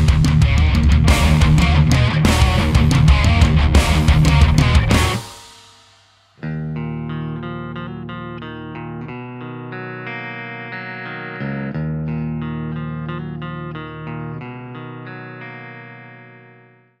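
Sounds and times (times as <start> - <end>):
electric guitar music: 0.0 - 5.4, 6.4 - 17.0.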